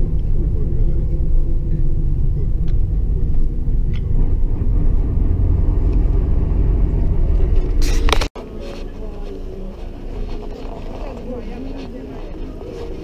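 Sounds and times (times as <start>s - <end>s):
bus engine rumble: 0.0s - 13.0s
road noise: 0.0s - 13.0s.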